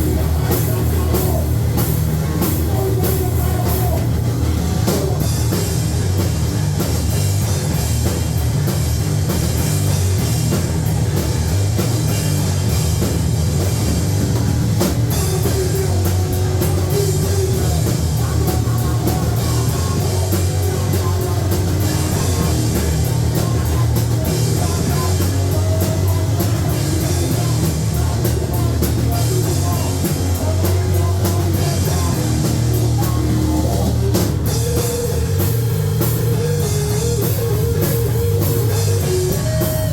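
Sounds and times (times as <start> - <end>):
distorted electric guitar: 0.0 - 39.9
pounding drum kit: 0.0 - 39.9.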